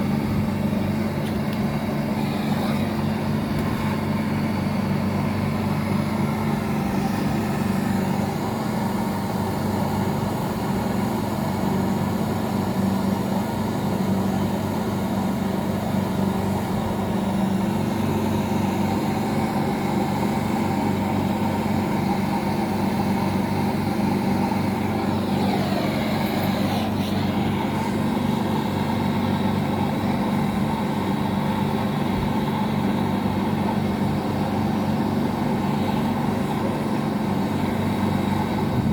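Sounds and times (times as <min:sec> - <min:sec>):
air-conditioning machinery humming: 0:00.0 - 0:38.9.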